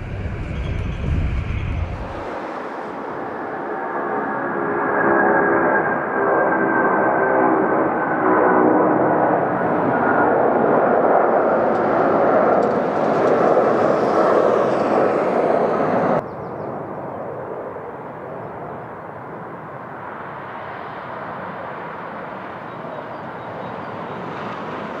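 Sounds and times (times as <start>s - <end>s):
jet engines at climb power: 0.0s - 25.0s.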